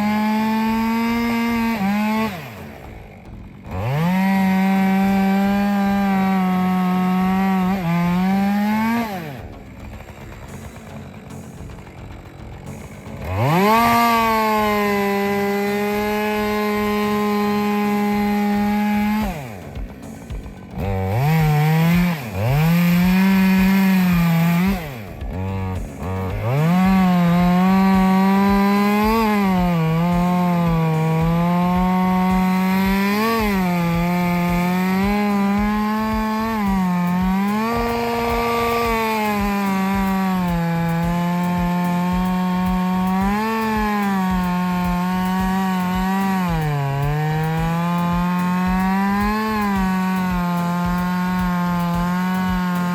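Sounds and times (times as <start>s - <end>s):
chainsaw cutting wood: 0.0s - 52.9s
chainsaw revving: 0.0s - 52.9s.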